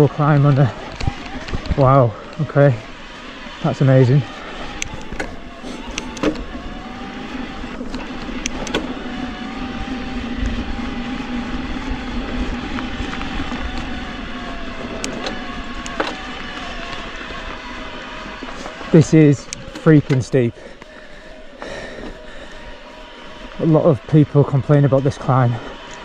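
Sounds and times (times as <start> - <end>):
electric bike motor whining: 0.0 - 26.0
tyre and trail rumble: 0.0 - 26.0.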